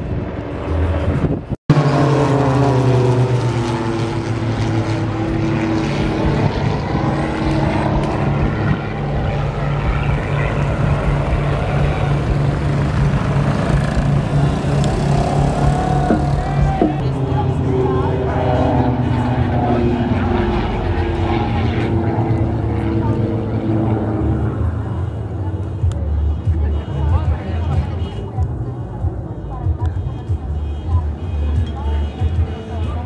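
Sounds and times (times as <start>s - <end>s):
propeller planes flying past: 0.0s - 33.0s.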